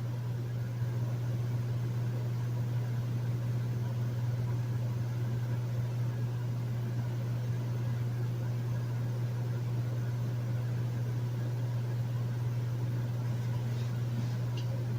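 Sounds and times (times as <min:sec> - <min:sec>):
air conditioner humming: 0:00.0 - 0:14.9.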